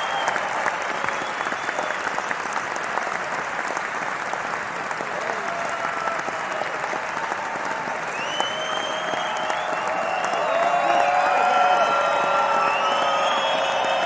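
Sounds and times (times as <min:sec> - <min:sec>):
crowd applauding: 0:00.0 - 0:14.0
people cheering: 0:00.0 - 0:14.0.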